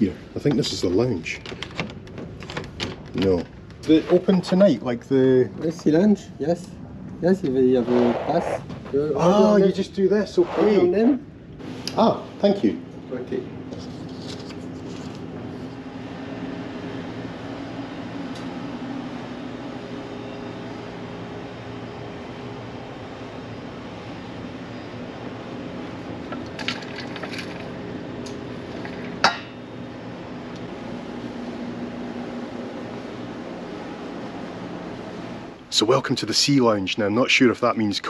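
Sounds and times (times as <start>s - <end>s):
low machinery hum: 0.0s - 37.6s.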